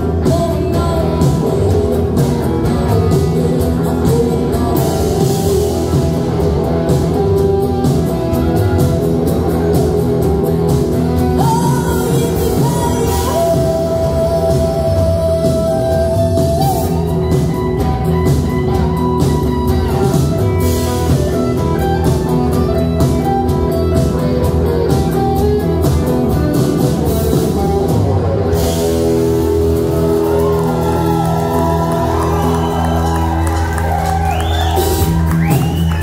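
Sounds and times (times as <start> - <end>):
drum kit: 0.0 - 36.0
electric guitars: 0.0 - 36.0.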